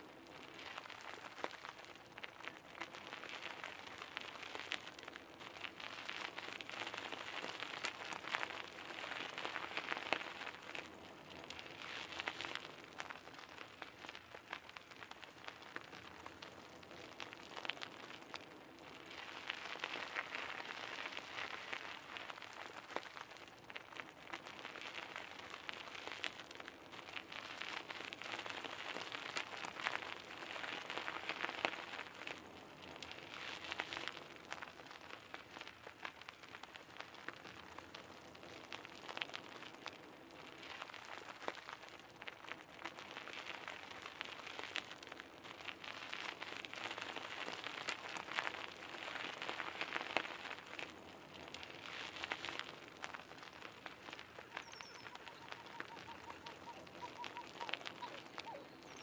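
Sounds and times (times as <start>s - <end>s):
bicycle tyres on gravel: 0.0s - 59.0s.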